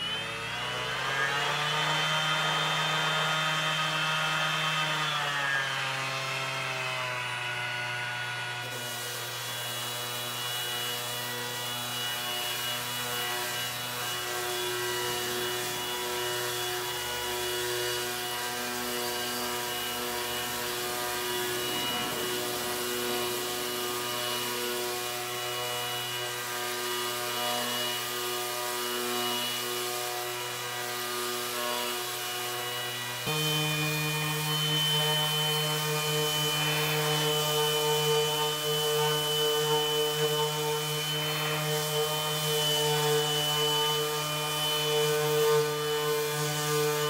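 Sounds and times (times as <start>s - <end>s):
orbital sander sanding wood: 0.0s - 47.0s.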